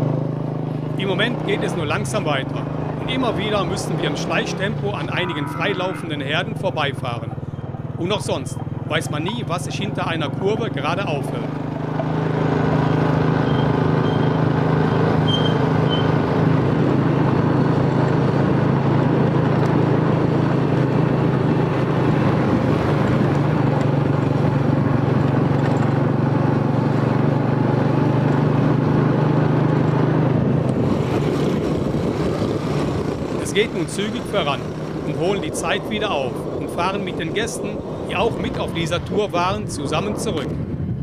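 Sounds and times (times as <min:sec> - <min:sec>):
small motorcycle engine running: 0:00.0 - 0:41.0
wind and road noise: 0:00.0 - 0:41.0.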